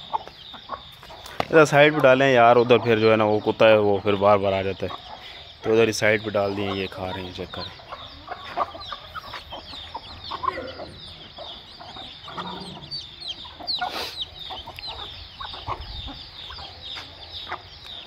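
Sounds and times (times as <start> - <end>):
chicks peeping: 0.0 - 18.0
hens clucking: 0.0 - 18.0.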